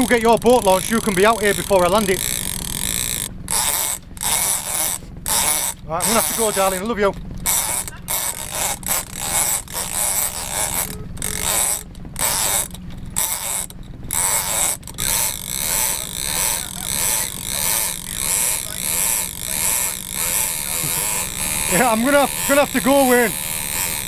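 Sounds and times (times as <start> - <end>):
fishing reel clicking and creaking: 0.0 - 24.0.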